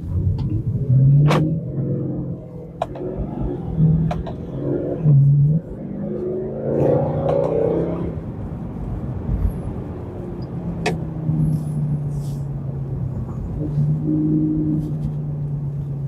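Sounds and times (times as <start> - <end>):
car engine cruising: 0.0 - 16.0.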